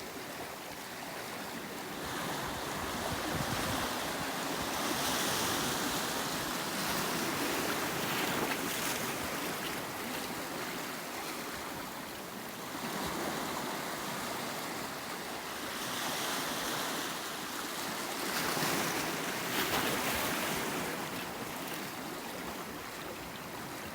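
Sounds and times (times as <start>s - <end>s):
sea waves breaking on shore: 0.0s - 23.7s.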